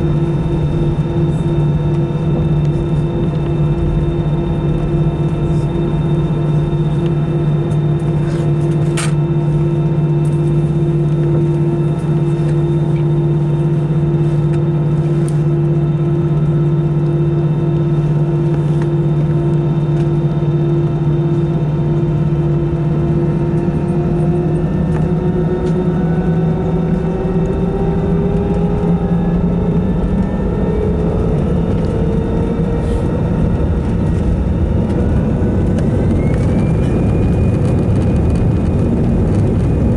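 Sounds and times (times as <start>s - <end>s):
jet engines droning from cabin: 0.0s - 39.9s.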